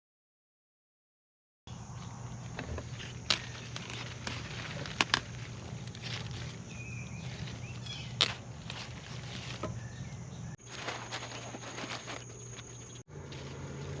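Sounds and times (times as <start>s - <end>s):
handling plants: 2.1s - 14.0s.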